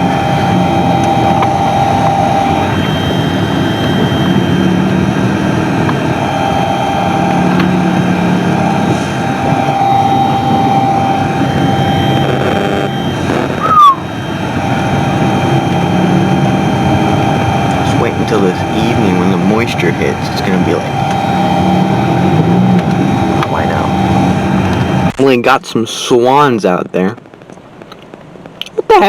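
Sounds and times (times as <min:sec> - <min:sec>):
car engine and road noise: 0:00.0 - 0:29.0
wind buffeting car: 0:00.0 - 0:29.0.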